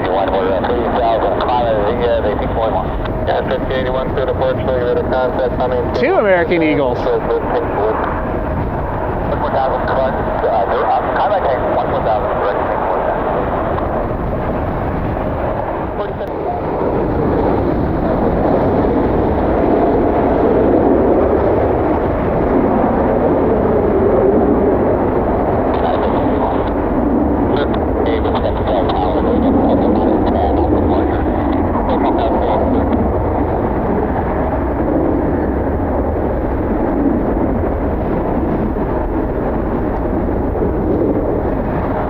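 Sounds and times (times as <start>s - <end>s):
jet engines roaring: 0.0s - 42.0s
wind buffeting microphone: 0.0s - 42.0s.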